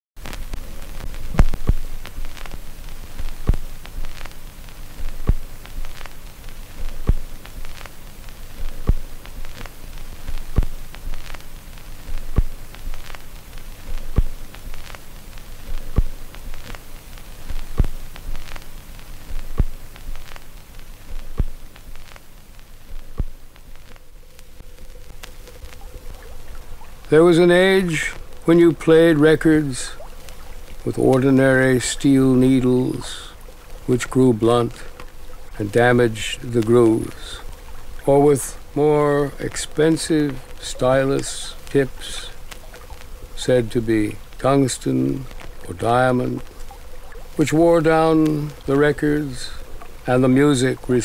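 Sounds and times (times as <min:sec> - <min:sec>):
record scratch click: 0:00.2 - 0:43.4
light record crackle: 0:00.2 - 0:51.0
record hum and hiss: 0:00.2 - 0:51.0.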